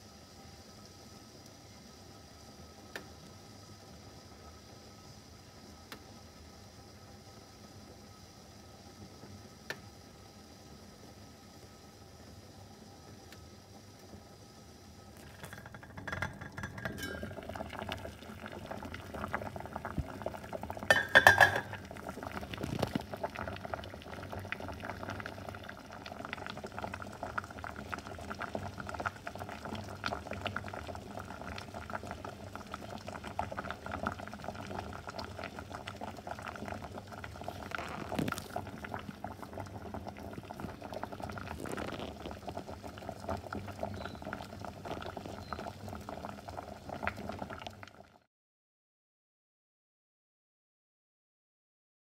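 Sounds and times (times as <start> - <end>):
water boiling in a pot: 0.0 - 48.3.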